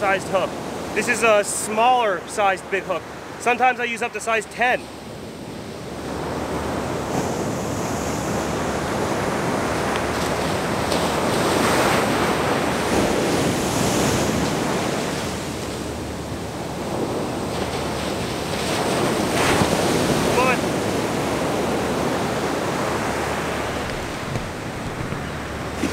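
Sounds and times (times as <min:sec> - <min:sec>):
ocean surf breaking: 0:00.0 - 0:25.9.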